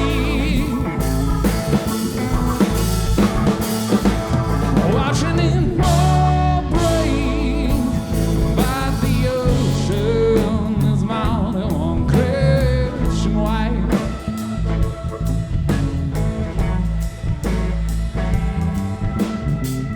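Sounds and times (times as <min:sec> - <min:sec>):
bass: 0:00.0 - 0:19.9
drums: 0:00.0 - 0:19.9
wavering lead melody: 0:00.0 - 0:19.9.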